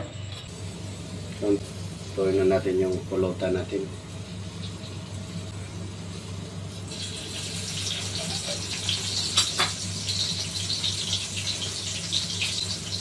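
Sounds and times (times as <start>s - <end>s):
onion sizzling in oil: 0.5s - 13.0s.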